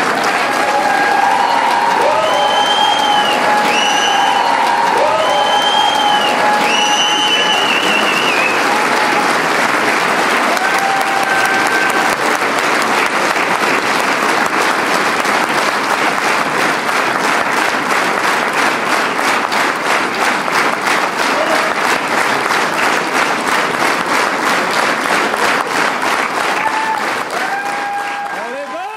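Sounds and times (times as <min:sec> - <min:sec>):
audience applauding: 0:00.0 - 0:28.9.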